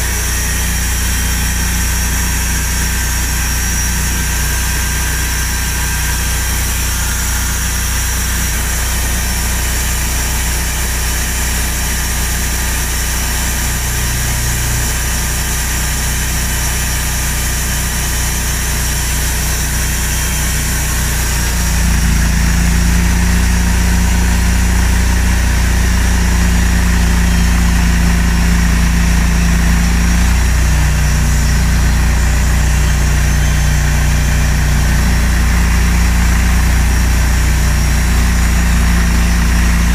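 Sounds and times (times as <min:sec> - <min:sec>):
band sawmill humming: 0:00.0 - 0:39.9
saw blade cutting log: 0:00.0 - 0:39.9.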